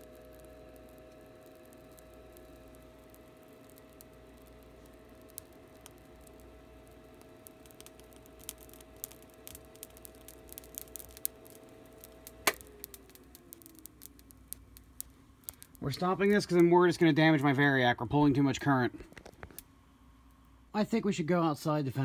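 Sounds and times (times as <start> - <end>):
steady electrical hum: 0.0 - 22.0
voice coil crackling and sizzling: 0.0 - 22.0.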